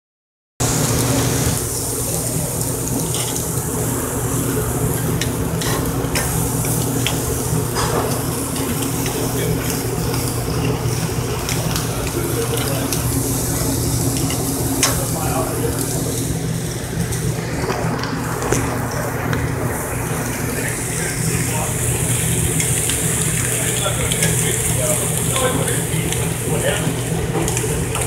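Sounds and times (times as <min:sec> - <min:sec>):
chicken wings sizzling on grill: 0:00.6 - 0:28.0
steady low hum: 0:00.6 - 0:28.0.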